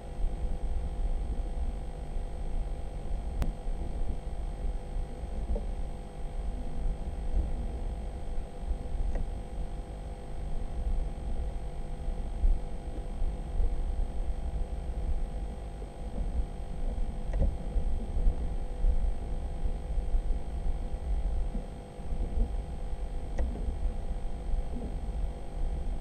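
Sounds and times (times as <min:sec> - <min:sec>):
faint electronic whine: 0:00.0 - 0:26.0.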